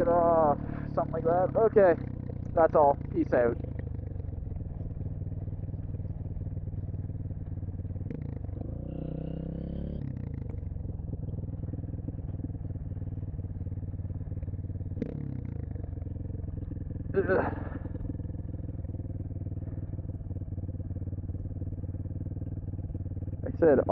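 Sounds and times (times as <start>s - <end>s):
dirt bike engine running: 0.0s - 23.9s.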